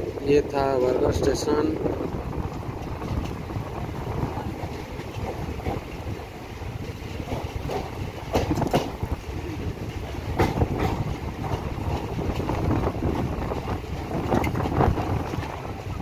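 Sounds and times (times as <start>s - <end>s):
train low rumble: 0.0s - 16.0s
wheels clacking over rail joints: 0.0s - 16.0s.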